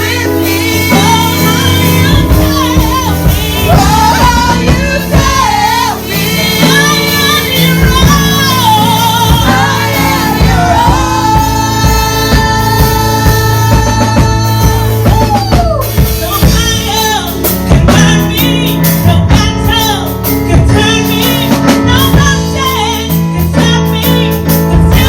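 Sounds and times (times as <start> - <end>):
instrumental accompaniment: 0.0 - 25.0
woman singing: 0.0 - 25.0.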